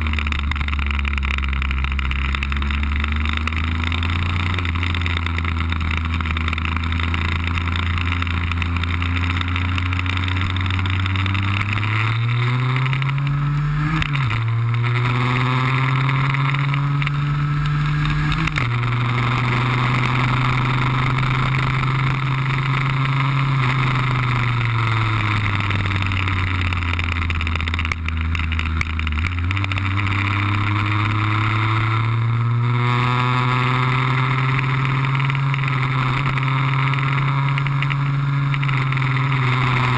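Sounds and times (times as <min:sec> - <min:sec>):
scooter engine revving: 0:00.0 - 0:39.9.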